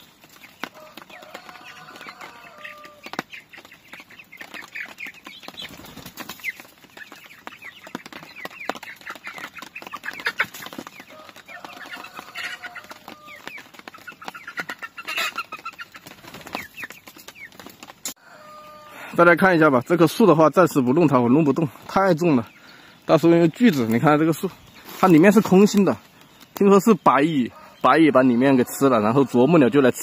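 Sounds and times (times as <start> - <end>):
young chickens chirping and squawking: 0.0 - 30.0.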